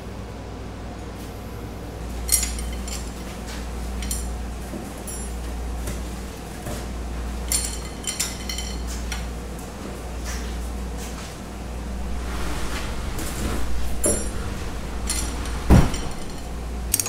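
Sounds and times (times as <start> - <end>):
air conditioner hum: 0.0 - 17.0.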